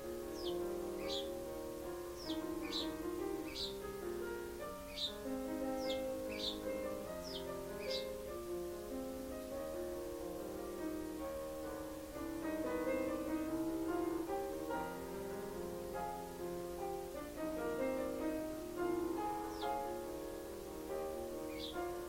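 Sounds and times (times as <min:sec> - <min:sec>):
piano chords and melody: 0:00.0 - 0:22.0.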